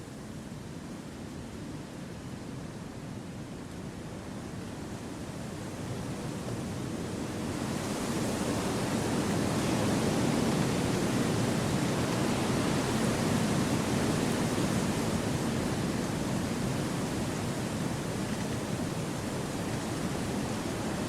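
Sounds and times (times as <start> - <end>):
wind rushing through forest: 2.9 - 21.0.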